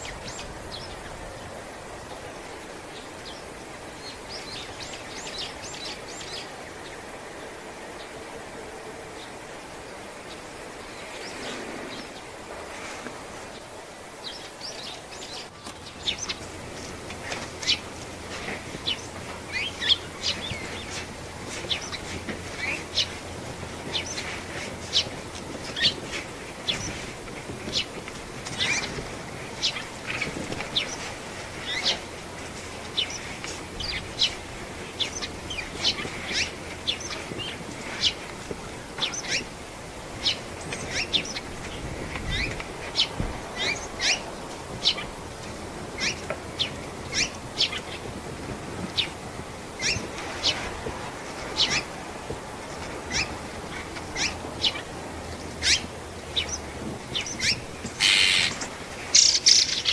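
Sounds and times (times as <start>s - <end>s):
small birds chirping: 0.0s - 8.2s, 14.2s - 39.6s, 40.2s - 45.2s, 45.9s - 48.2s, 48.8s - 50.7s, 51.4s - 52.0s, 52.7s - 59.9s.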